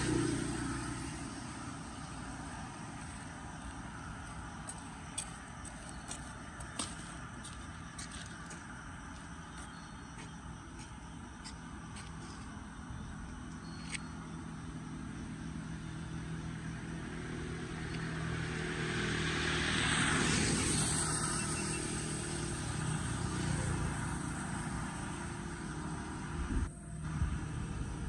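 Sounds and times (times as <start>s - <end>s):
low hum of engines: 0.0s - 28.0s.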